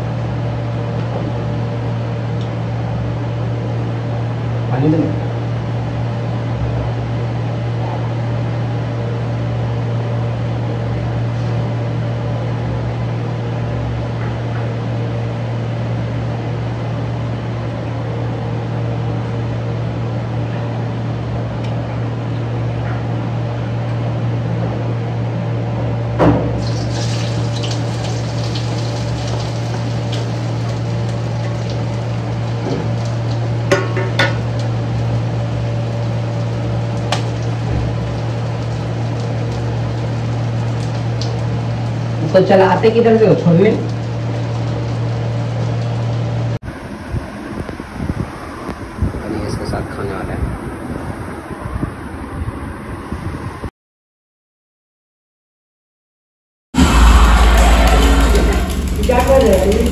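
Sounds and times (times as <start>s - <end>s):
low mechanical hum: 0.0s - 53.7s, 56.8s - 59.9s.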